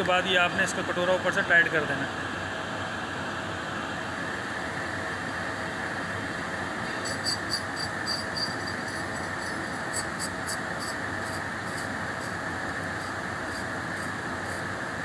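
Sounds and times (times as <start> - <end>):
steady background rushing noise: 0.0 - 15.0.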